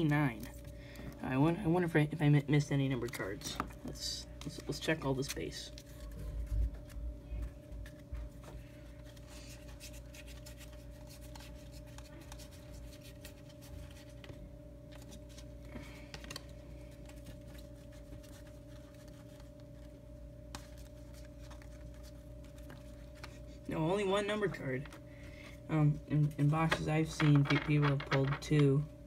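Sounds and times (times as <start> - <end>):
cards rustling and clicking: 0.0 - 29.0
steady low hum: 0.0 - 29.0.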